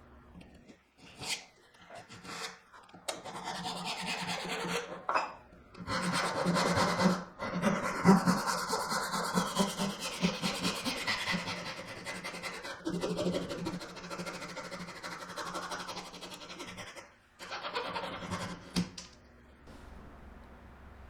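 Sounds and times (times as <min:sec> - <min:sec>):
hand saw cutting wood: 0:01.2 - 0:05.1, 0:05.8 - 0:18.9.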